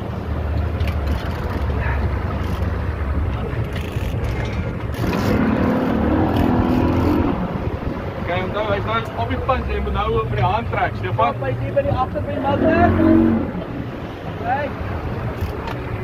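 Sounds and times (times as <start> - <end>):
boat engine running: 0.0 - 16.0
water noise: 0.0 - 16.0
wind: 0.0 - 16.0.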